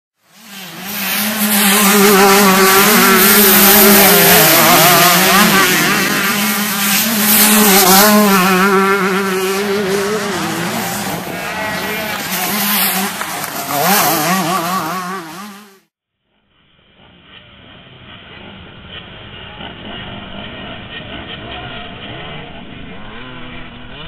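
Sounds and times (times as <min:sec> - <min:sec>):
motocross bike engine revving: 0:00.2 - 0:15.9, 0:18.9 - 0:24.0.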